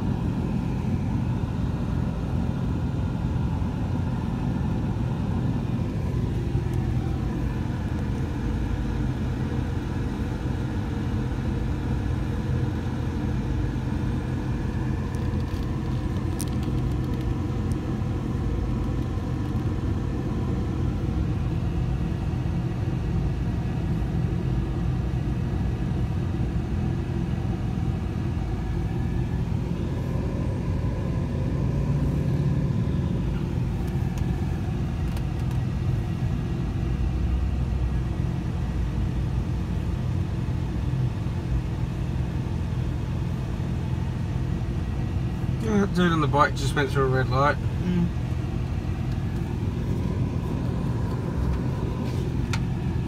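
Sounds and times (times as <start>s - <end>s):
car engine idling: 0.0s - 53.0s
surrounding traffic: 0.0s - 53.0s.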